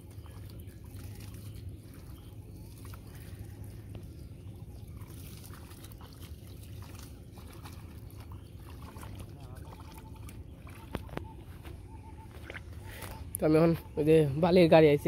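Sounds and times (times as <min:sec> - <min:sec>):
shallow water splashing: 0:00.0 - 0:13.2
low background rumble: 0:00.0 - 0:15.0.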